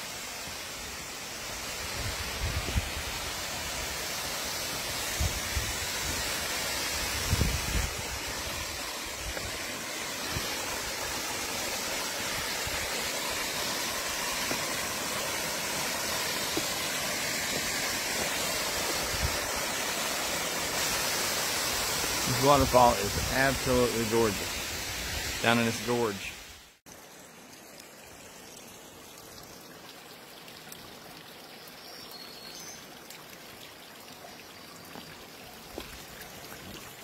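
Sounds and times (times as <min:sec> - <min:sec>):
waterfall rushing into pool: 0:00.0 - 0:37.0.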